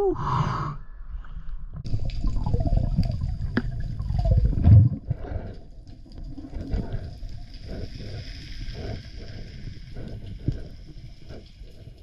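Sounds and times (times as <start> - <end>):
water rushing underwater: 1.8 - 12.0.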